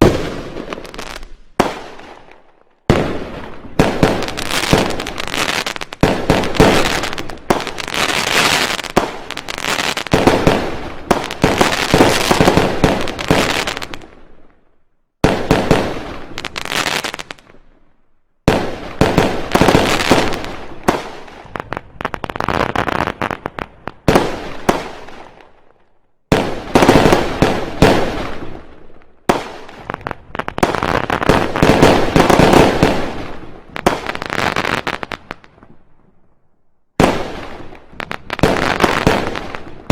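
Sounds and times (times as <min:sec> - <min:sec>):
fireworks banging and crackling: 0:00.0 - 0:14.5, 0:15.2 - 0:17.6, 0:18.4 - 0:36.2, 0:37.0 - 0:39.9.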